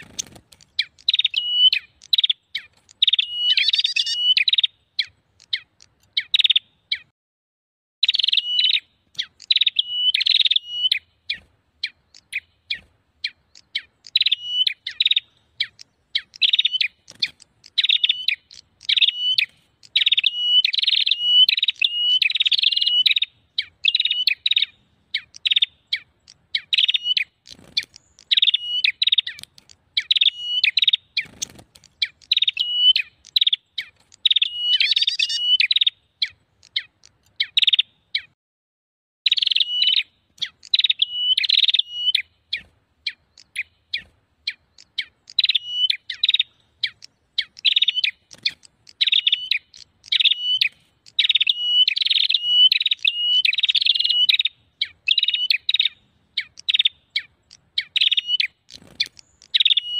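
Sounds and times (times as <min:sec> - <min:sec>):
songbird high-pitched chirping: 0:00.0 - 0:07.1, 0:08.0 - 0:38.4, 0:39.3 - 0:59.9.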